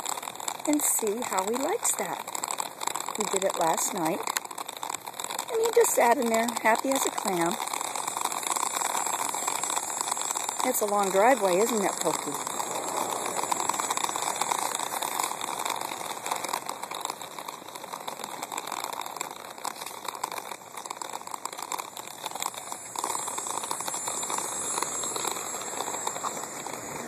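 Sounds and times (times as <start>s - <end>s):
small wheels rolling on asphalt: 0.0s - 27.0s.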